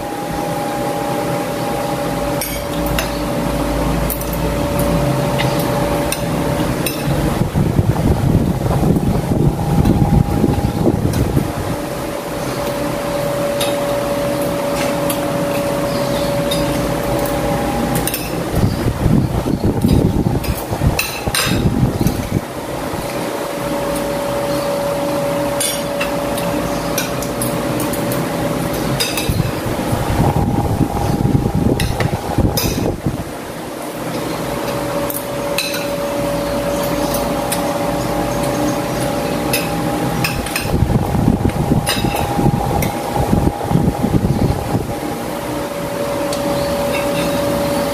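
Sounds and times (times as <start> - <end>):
steady background hum: 0.0 - 47.9.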